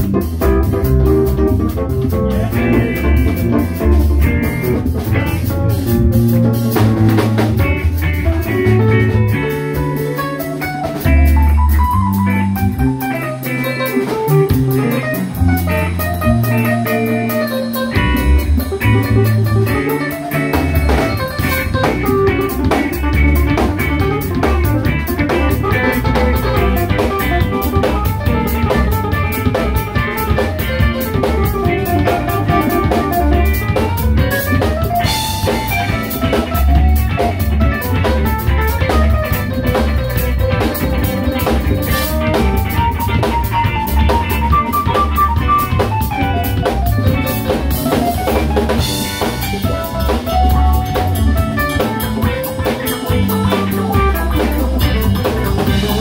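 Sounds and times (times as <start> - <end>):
drum kit with busy cymbals: 0.0 - 56.0
electric bass: 0.0 - 56.0
electric guitar: 0.0 - 56.0
keyboard: 0.0 - 56.0.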